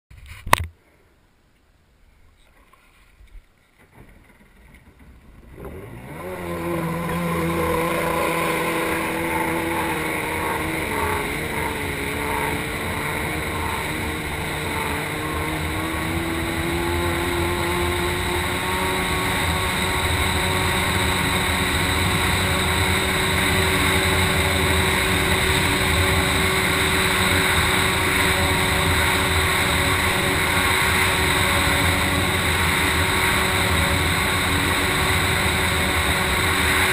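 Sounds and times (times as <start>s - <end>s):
jet ski engine revving: 5.2s - 36.9s.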